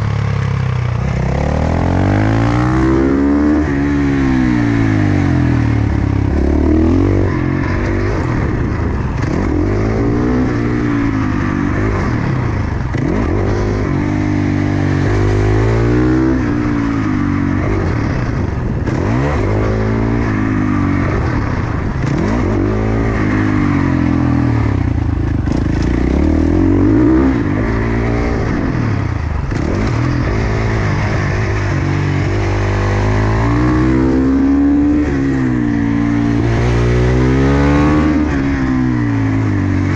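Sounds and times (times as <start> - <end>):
motorcycle engine revving: 0.0 - 39.9
wind noise: 0.7 - 39.9.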